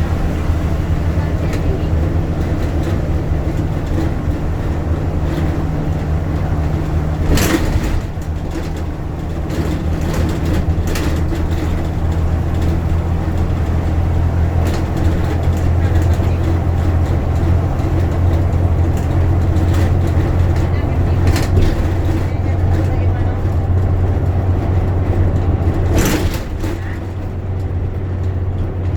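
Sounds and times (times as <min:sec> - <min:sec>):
bus engine drone: 0:00.0 - 0:28.9.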